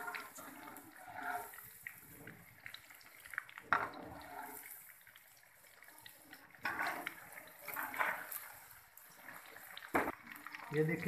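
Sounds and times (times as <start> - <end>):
chicken deep-frying in hot oil: 0.0 - 11.0
metal spoon turning food in oil: 0.0 - 11.0.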